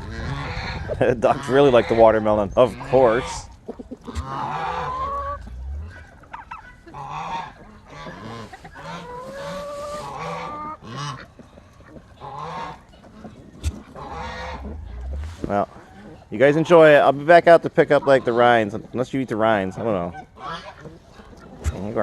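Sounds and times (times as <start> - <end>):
fowl calling: 0.0 - 11.4, 12.0 - 16.8, 20.1 - 22.0.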